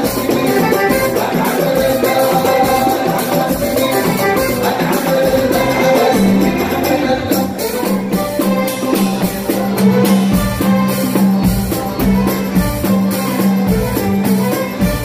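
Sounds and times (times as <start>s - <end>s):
quick drum beat: 0.0s - 15.0s.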